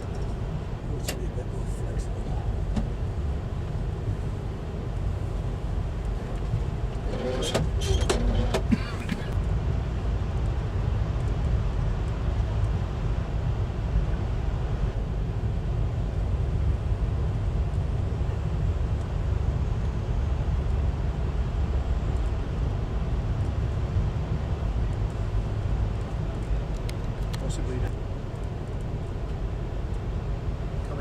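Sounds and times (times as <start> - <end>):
train rumbling inside rail car: 0.0 - 31.0.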